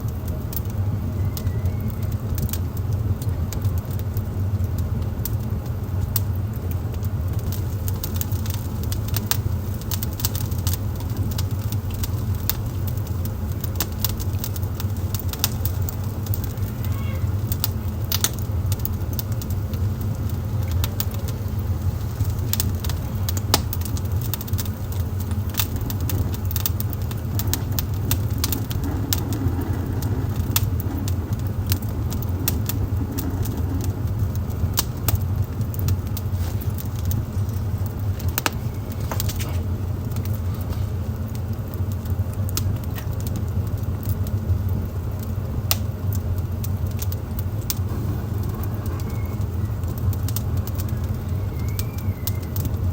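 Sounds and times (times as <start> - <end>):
fire low rumble: 0.0 - 52.9
wood fire crackling and popping: 0.0 - 52.9.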